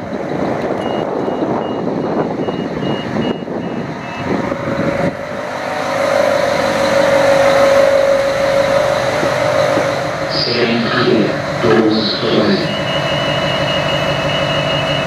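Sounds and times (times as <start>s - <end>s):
railcar diesel engine droning: 0.0s - 15.0s.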